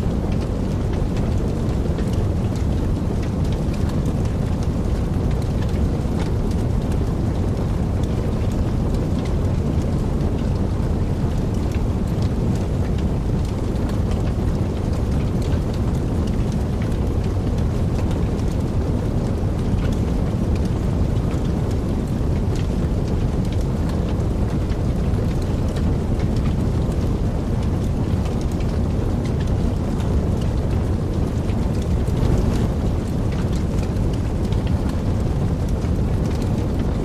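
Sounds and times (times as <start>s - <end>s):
fire crackling and popping: 0.0s - 37.0s
rumble of fire flames: 0.0s - 37.0s.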